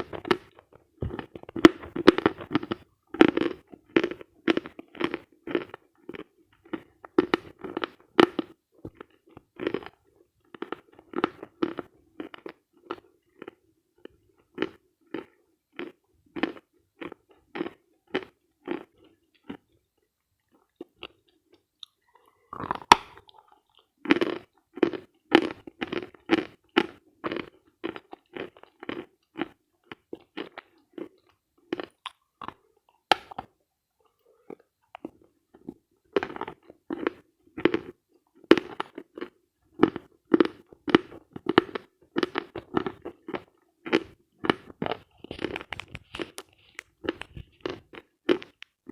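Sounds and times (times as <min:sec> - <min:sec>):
person chewing crunchy chalk: 0:00.0 - 0:48.9.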